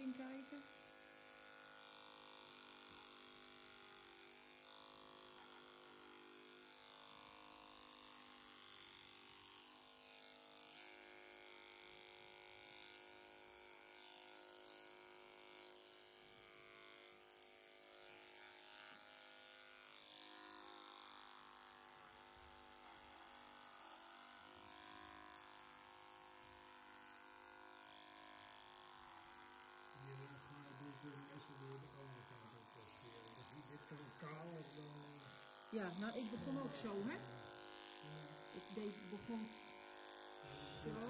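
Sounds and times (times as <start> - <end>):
electric clipper cutting hair: 0.0 - 41.0.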